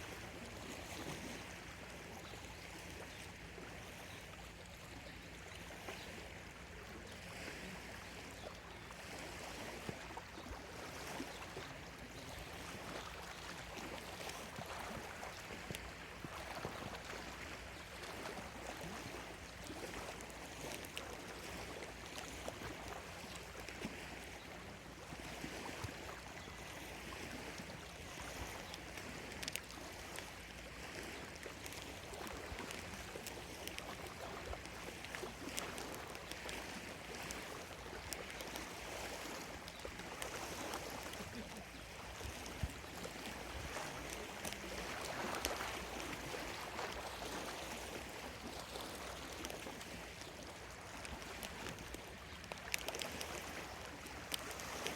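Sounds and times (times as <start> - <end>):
waves lapping at shore: 0.0 - 54.9.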